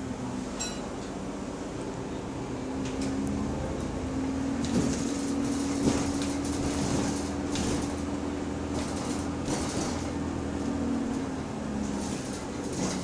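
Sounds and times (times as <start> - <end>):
bus drivetrain hum: 0.0 - 13.0.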